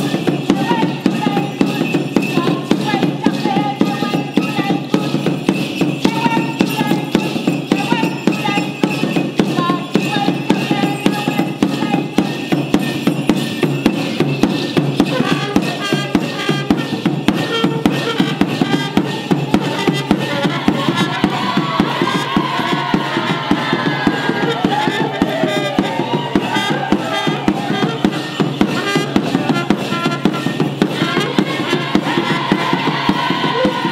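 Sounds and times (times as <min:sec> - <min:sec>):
drums beaten in quick rhythm: 0:00.0 - 0:33.9.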